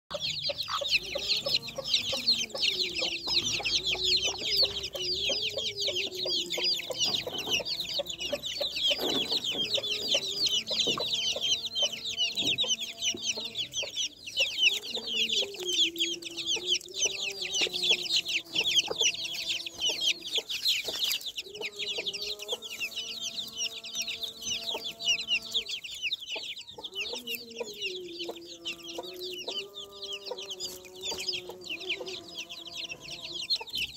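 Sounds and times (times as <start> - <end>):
chicks peeping: 0.1 - 33.9
hen clucking: 0.1 - 33.9.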